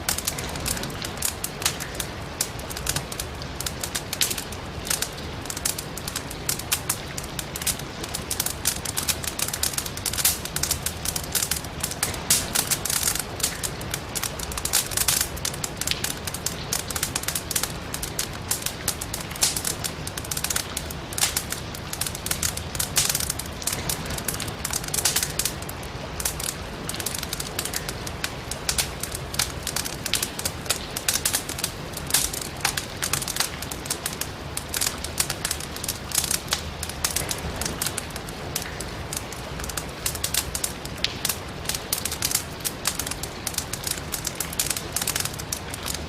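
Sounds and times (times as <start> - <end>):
rain hissing: 0.0 - 46.0
wood fire crackling: 0.0 - 46.0.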